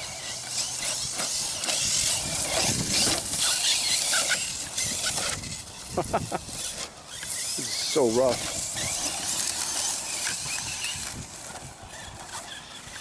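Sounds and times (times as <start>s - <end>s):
tyres hissing on gravel: 0.0s - 12.7s
rc car motor whine: 0.0s - 13.0s.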